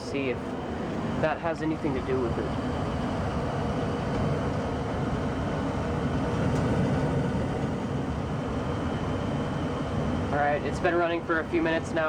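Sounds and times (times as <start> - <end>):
gas furnace flame and blower: 0.0 - 12.0.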